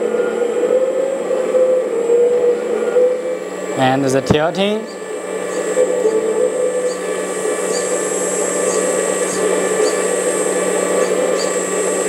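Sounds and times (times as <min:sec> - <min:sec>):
electric hydraulic pump whirring: 0:00.0 - 0:12.0.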